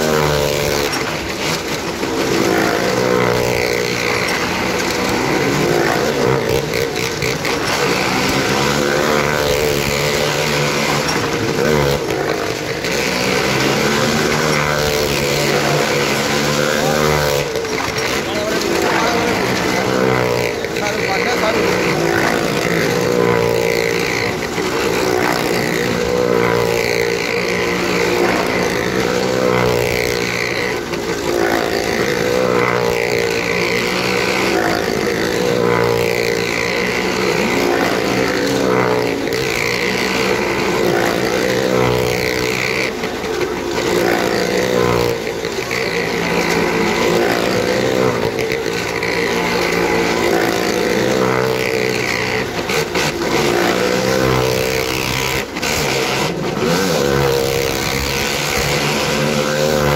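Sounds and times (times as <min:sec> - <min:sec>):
engines sweeping past: 0:00.0 - 0:59.9.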